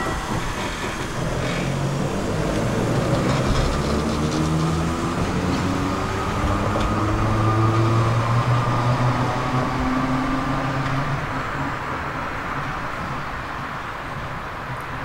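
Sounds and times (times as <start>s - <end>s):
electric tram motors humming: 0.0s - 15.0s
rumbling rail noise: 0.0s - 15.0s.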